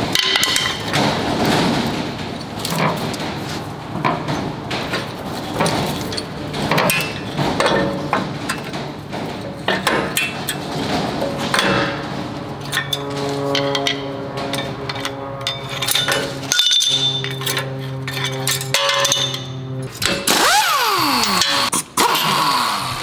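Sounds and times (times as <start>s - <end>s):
metallic knocks and clanks of brake parts: 0.1s - 20.3s.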